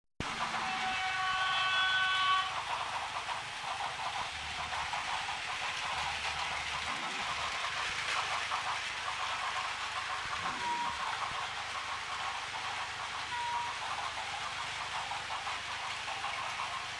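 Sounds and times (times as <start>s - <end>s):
toy train motors whirring: 0.2s - 16.9s
toy train wheels clattering: 0.2s - 16.9s.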